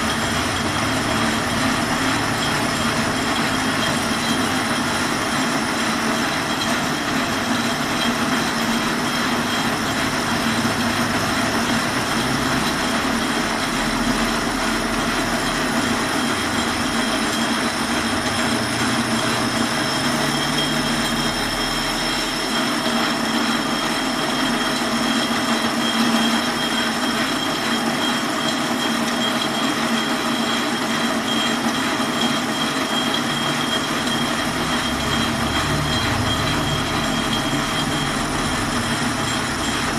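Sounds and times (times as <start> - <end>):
high-pitched whine: 0.0 - 39.9
metal lathe machining: 0.0 - 39.9.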